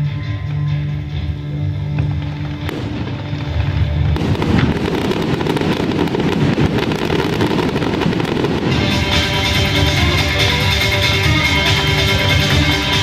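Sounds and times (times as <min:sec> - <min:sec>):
fireworks crackling: 0:02.0 - 0:13.0.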